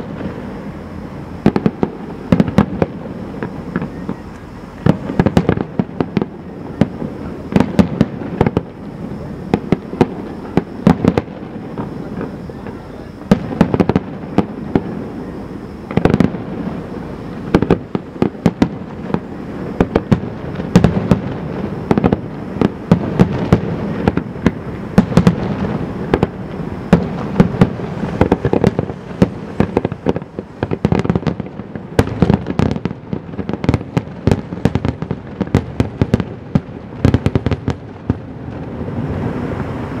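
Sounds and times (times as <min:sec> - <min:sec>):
steady rumble: 0:00.0 - 0:37.0
fireworks bangs and cracks: 0:00.0 - 0:40.0.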